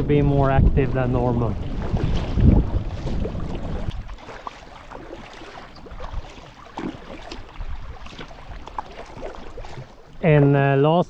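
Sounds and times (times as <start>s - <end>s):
water lapping around kayak: 0.0s - 11.0s
paddle splashes: 0.4s - 10.6s.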